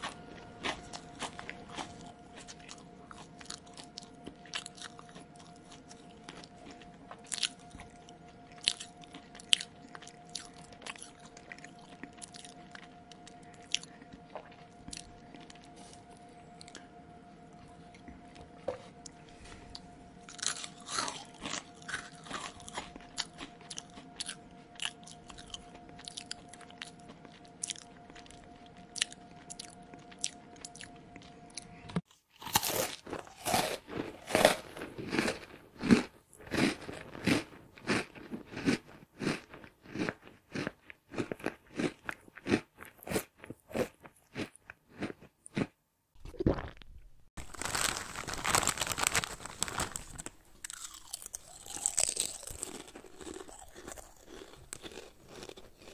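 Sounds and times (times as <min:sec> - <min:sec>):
faint steady hum: 0:00.0 - 0:55.9
mouth chewing crunchy food: 0:00.0 - 0:55.9.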